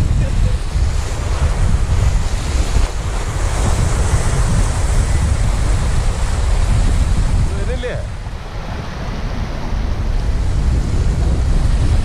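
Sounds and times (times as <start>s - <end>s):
surf breaking over rocks: 0.0s - 12.0s
wind buffeting microphone: 0.0s - 12.0s.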